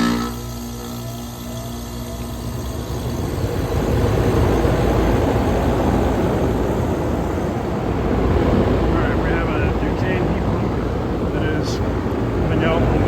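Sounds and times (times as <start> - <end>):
fan air whooshing: 0.0 - 13.0
motor whine: 0.0 - 13.0.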